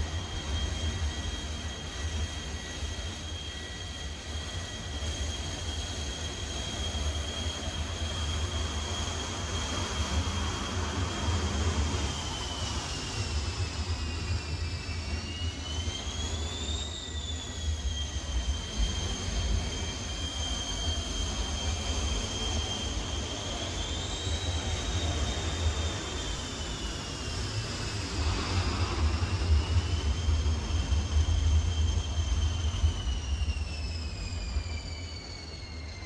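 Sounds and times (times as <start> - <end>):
jet turbine engine whine: 0.0 - 36.0.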